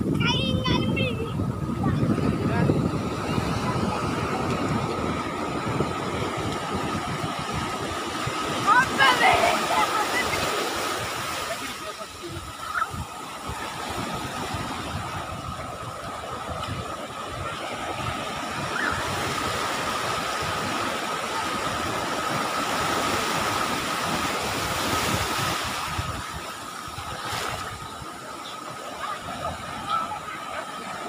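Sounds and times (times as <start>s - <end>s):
surf washing on sandy beach: 0.0s - 31.0s
wind gusts on microphone: 0.0s - 31.0s.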